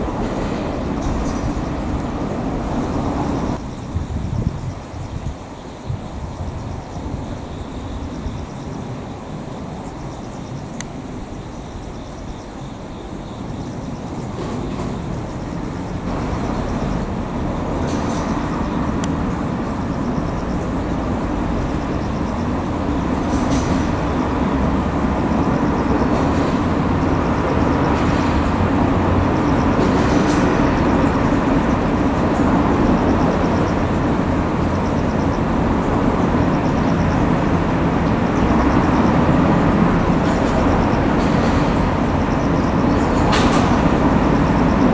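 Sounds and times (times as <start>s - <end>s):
train rumbling: 0.0s - 44.9s.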